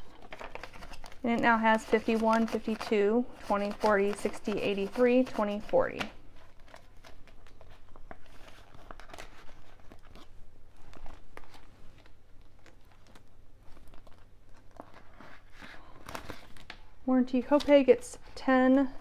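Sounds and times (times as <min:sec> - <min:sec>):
banknotes rustling: 0:00.0 - 0:19.0
plastic binder pockets crinkling: 0:00.0 - 0:19.0.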